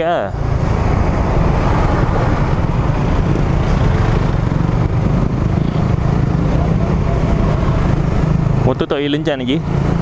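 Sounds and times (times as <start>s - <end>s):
motorcycle engine at low revs: 0.4s - 10.0s.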